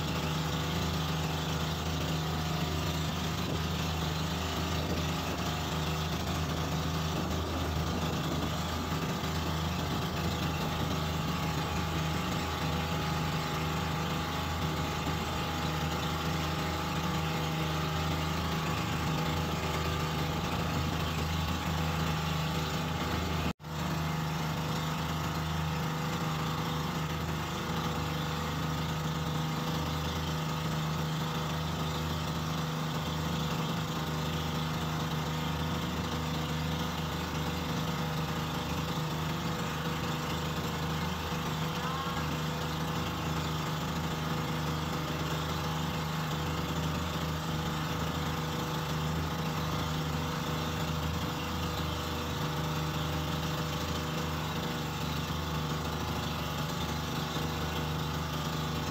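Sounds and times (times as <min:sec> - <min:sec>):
boat engine droning: 0:00.0 - 0:58.9
wind: 0:00.0 - 0:58.9.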